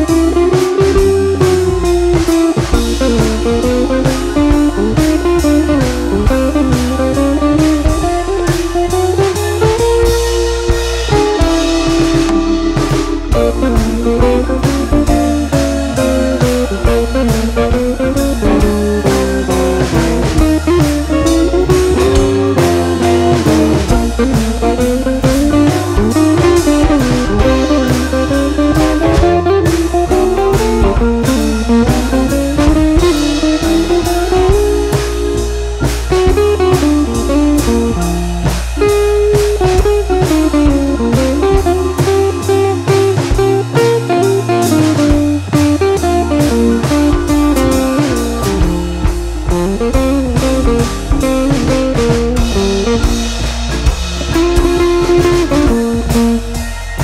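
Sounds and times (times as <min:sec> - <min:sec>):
blues guitar melody: 0:00.0 - 0:57.0
drum kit beat: 0:00.0 - 0:57.0.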